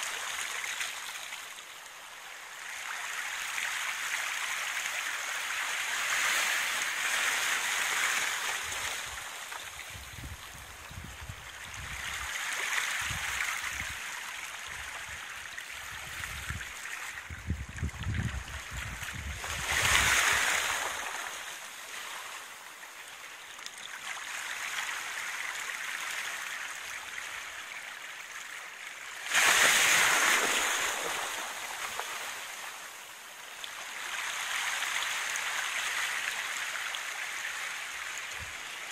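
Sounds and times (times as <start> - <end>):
small waves lapping at shore: 0.0 - 38.9.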